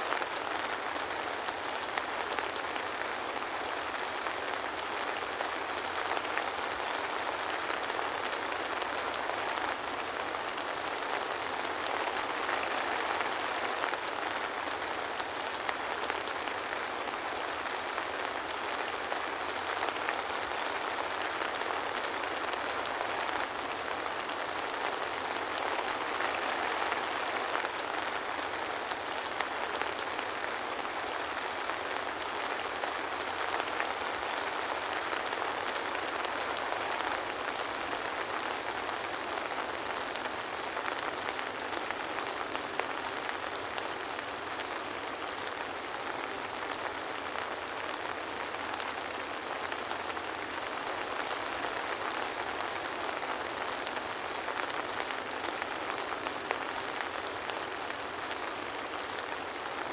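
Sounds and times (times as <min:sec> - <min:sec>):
soft rain hissing: 0:00.0 - 0:59.9.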